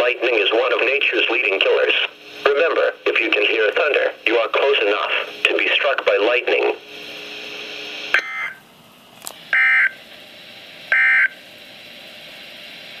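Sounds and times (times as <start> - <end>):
steady radio hiss: 0.0 - 13.0.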